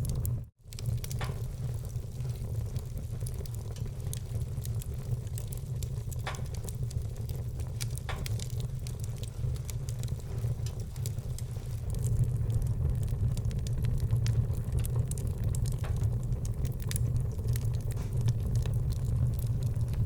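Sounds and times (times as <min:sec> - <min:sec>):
low rumble: 0:00.0 - 0:20.0
wood fire crackling: 0:00.0 - 0:20.0.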